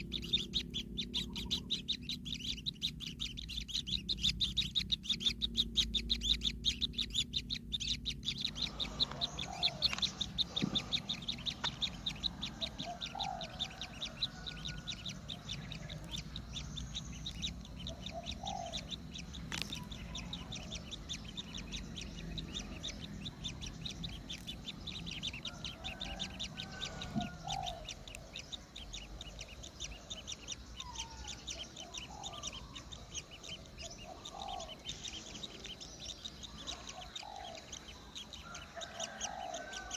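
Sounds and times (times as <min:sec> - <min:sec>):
nestlings chirping high-pitched: 0:00.0 - 0:39.9
short lower bird calls: 0:00.0 - 0:39.9.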